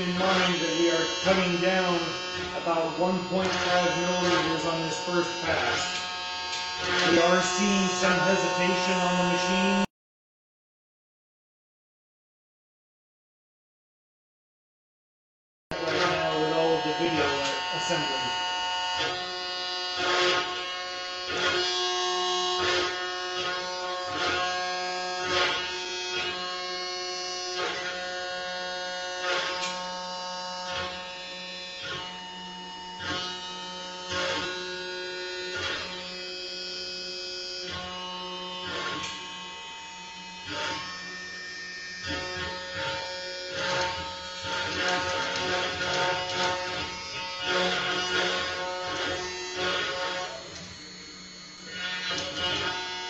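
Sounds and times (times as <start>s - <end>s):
router bit rasping wood: 0.0s - 9.9s, 15.7s - 53.0s
router motor whine: 0.0s - 9.9s, 15.7s - 53.0s.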